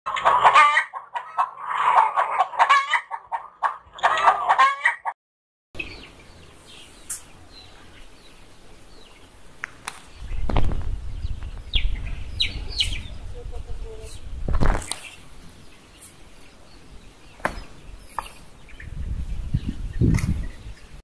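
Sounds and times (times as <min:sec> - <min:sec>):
chicks peeping: 0:00.1 - 0:05.1, 0:05.8 - 0:20.9
chickens clucking: 0:00.1 - 0:05.2, 0:05.8 - 0:20.8.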